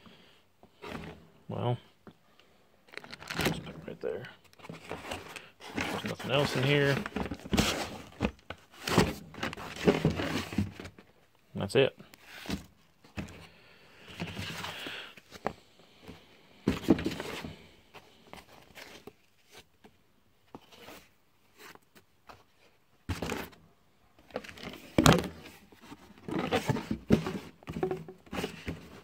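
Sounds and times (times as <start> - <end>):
cardboard and foam rustling: 2.9 - 11.2, 12.2 - 19.8, 20.5 - 23.6, 24.2 - 29.0.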